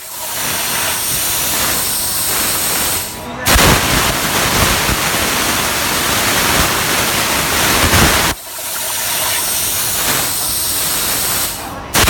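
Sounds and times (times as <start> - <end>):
plasma cutter hissing: 0.0 - 12.0.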